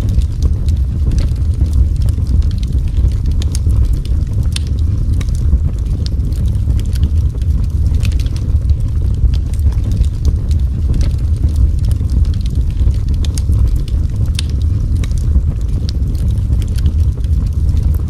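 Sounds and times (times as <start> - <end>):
fire crackling and popping: 0.0 - 18.0
fire roaring: 0.0 - 18.0.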